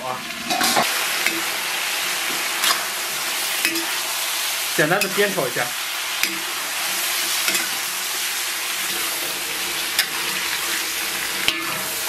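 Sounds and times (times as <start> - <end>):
meat sizzling in a wok: 0.0 - 12.0.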